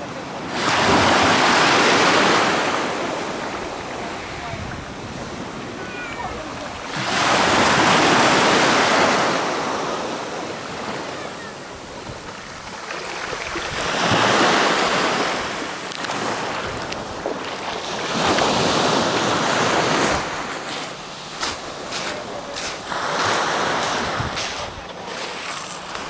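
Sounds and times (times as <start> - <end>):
waves washing up pebble beach: 0.0 - 26.0.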